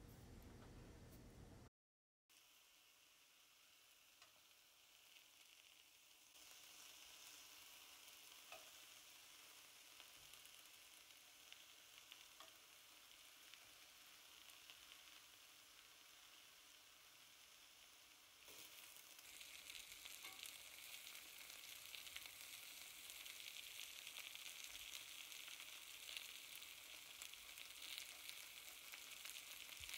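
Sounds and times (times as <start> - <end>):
cabbage sizzling in a pan: 2.3 - 29.9.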